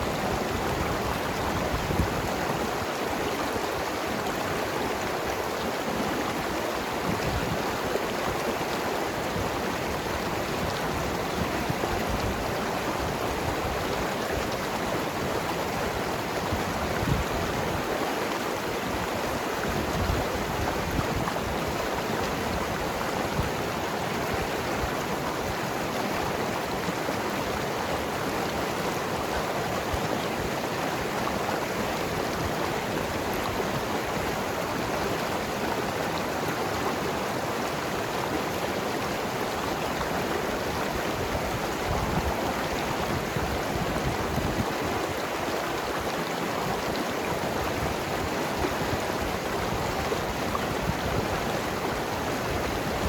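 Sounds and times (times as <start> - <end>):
river flowing over rocks: 0.0 - 53.0.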